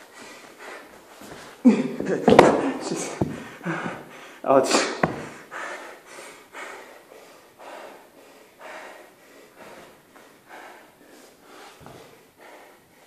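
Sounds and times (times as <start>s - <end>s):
person breathing hard: 0.0s - 13.0s.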